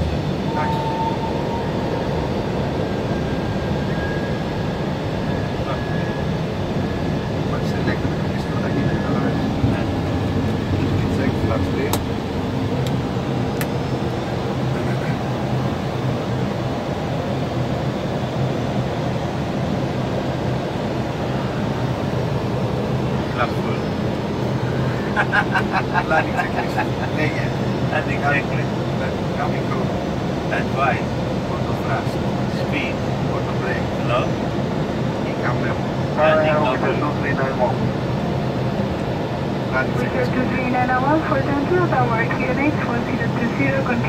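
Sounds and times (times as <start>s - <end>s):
airflow and engine noise: 0.0s - 44.0s
airplane cockpit rushing: 0.0s - 44.0s.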